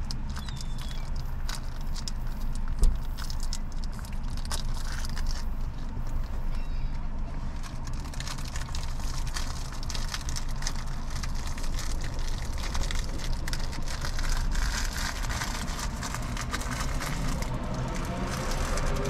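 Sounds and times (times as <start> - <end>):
dense crackling and rustling: 0.0 - 19.0
steady low rumble: 0.0 - 19.0.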